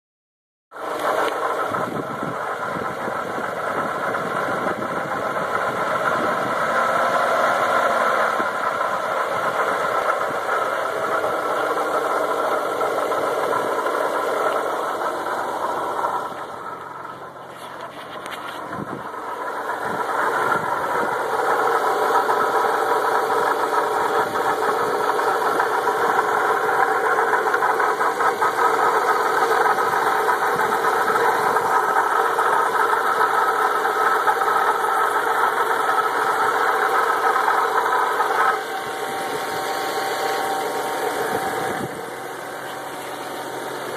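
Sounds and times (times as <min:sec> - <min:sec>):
car engine running: 0:00.8 - 0:43.9
steady mechanical noise: 0:00.8 - 0:43.9.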